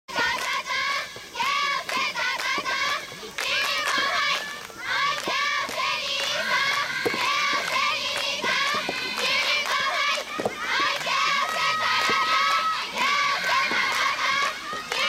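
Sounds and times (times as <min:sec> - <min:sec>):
girls chanting cheers: 0:00.1 - 0:15.0.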